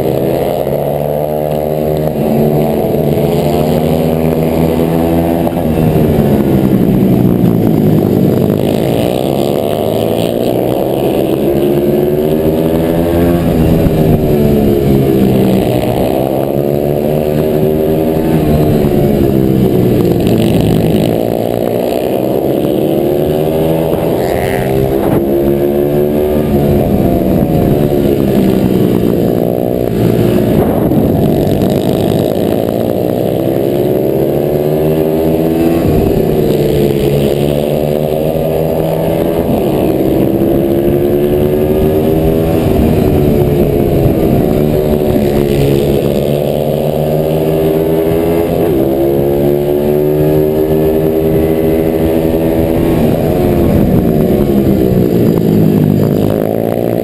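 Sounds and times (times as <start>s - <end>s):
motorbike engine revving: 0.0s - 57.0s
wind noise: 2.2s - 57.0s.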